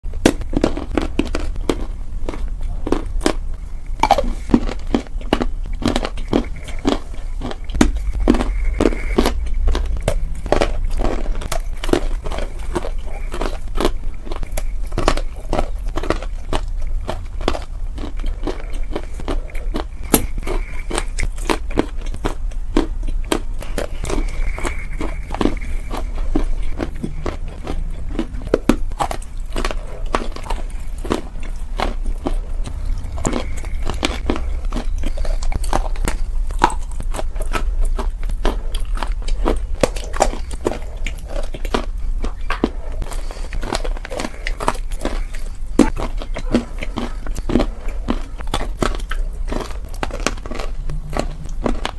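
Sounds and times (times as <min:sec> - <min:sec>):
dried clay being chewed: 0:00.0 - 0:51.9
steady low hum: 0:00.0 - 0:51.9.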